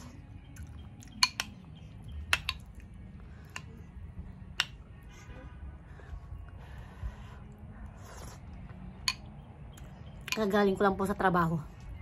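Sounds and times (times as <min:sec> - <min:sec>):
low steady rumble: 0:01.8 - 0:12.0.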